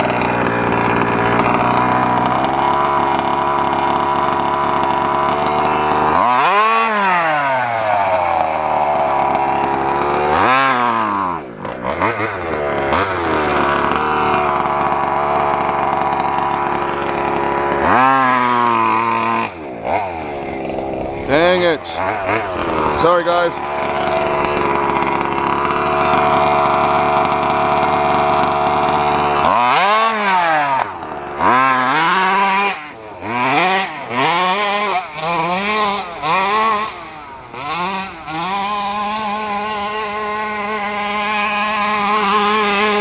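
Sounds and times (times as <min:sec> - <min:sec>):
small two-stroke engine revving: 0:00.0 - 0:43.0.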